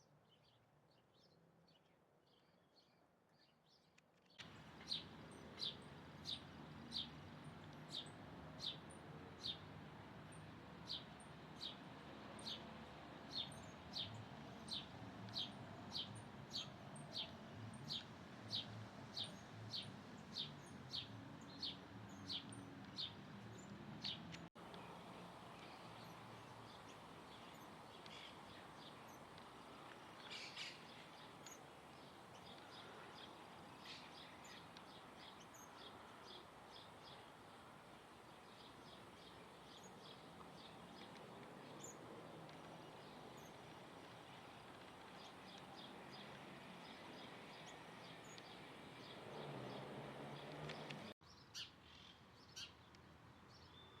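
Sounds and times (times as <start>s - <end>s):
low background hiss: 4.4s - 51.2s.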